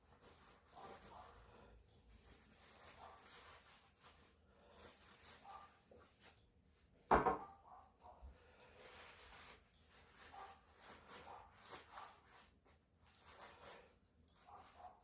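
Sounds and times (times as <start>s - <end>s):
faint rubbing and handling: 0.0s - 7.1s, 7.7s - 15.0s.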